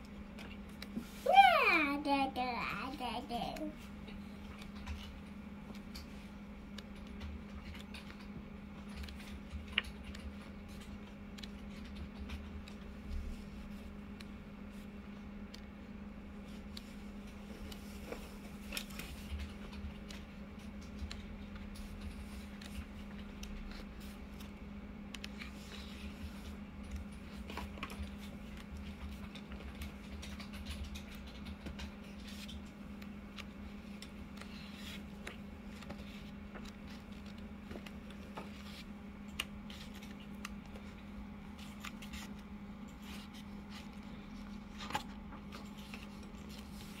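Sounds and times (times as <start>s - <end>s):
steady low hum: 0.0s - 47.0s
book pages rustling: 3.2s - 15.7s, 16.4s - 47.0s.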